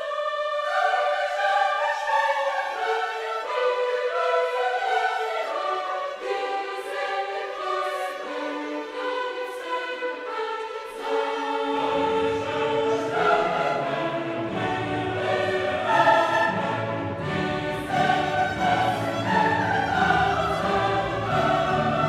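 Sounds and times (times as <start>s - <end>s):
choir singing chords: 0.0s - 22.0s.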